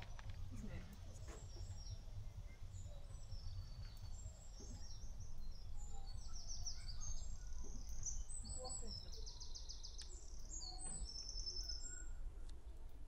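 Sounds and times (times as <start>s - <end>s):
low outdoor rumble: 0.0s - 10.6s
birds chirping and singing: 1.2s - 12.2s.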